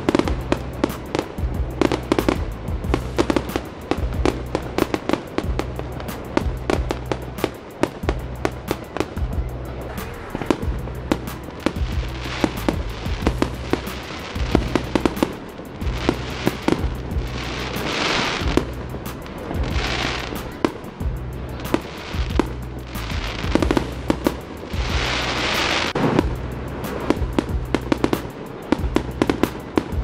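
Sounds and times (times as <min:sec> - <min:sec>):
fireworks bangs and pops: 0:00.0 - 0:30.0
fireworks hissing crackle: 0:00.0 - 0:30.0.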